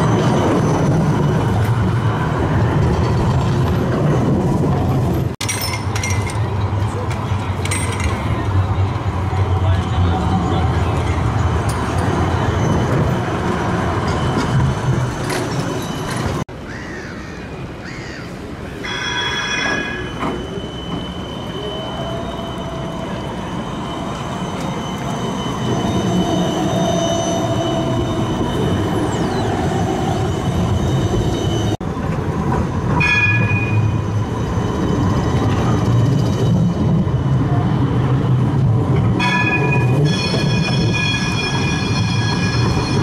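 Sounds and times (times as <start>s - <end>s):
tram rumbling on track: 0.0s - 43.0s.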